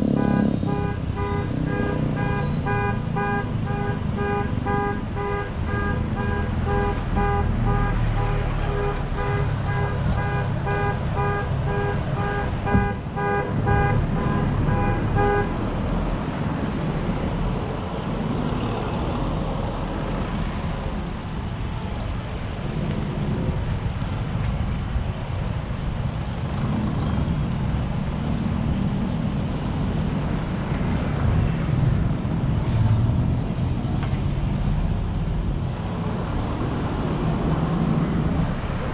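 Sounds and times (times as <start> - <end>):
surrounding traffic: 0.0 - 38.9
vehicle engine and road rumble: 0.0 - 38.9.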